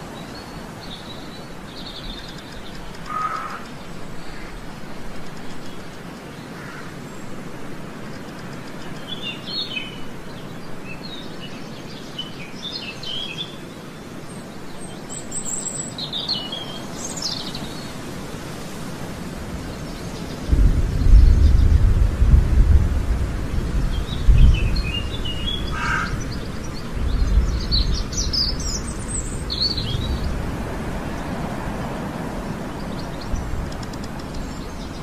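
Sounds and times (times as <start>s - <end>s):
outdoor background noise: 0.0s - 35.0s
small birds chirping: 0.1s - 7.4s, 8.0s - 18.2s, 19.6s - 22.0s, 23.6s - 35.0s.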